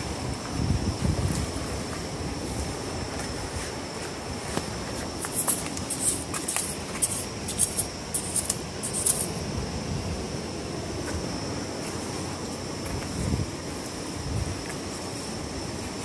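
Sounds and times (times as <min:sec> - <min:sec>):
wind noise: 0:00.0 - 0:16.0.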